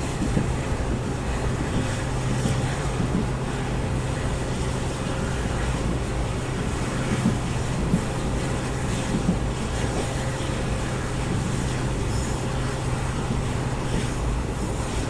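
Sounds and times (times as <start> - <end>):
diesel train rumbling in motion: 0.0 - 15.0.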